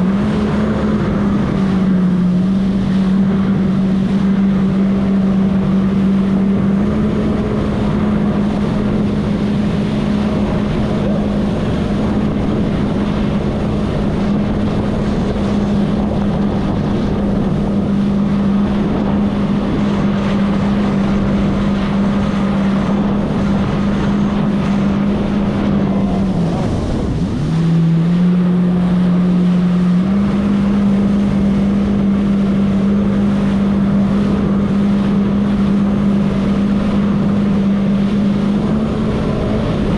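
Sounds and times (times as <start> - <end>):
jet ski engine running: 0.0 - 39.9
water and wind noise: 0.0 - 39.9.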